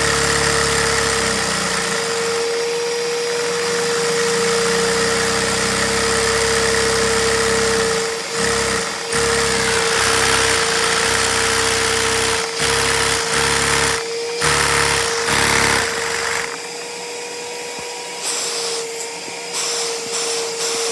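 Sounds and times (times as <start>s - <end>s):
small vacuum engine running: 0.0s - 20.9s.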